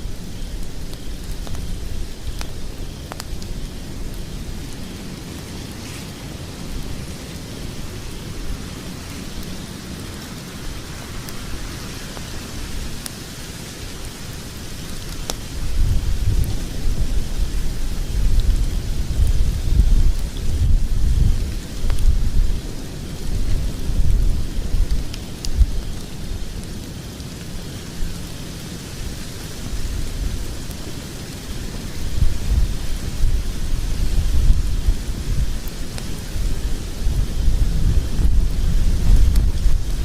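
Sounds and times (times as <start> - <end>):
log fire pops and snaps: 0.0 - 40.0
low rush of flames: 0.0 - 40.0.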